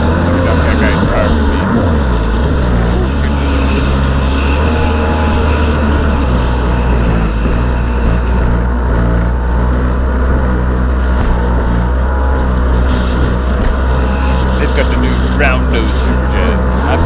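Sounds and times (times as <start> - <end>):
jet ski engine: 0.0 - 17.0.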